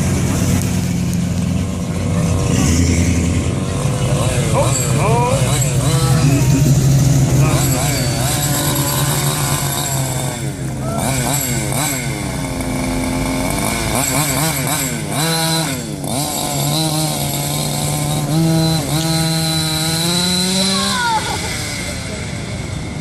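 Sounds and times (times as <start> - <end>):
radio-controlled car engine revving: 0.0 - 23.0.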